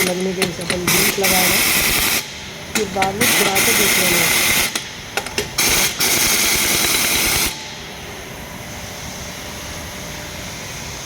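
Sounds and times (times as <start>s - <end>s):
loud steady hiss: 0.0s - 11.0s
steady background noise: 0.0s - 11.0s.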